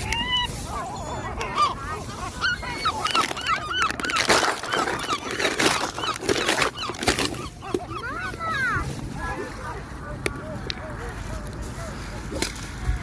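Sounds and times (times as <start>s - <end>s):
flock of birds calling: 0.0s - 13.0s.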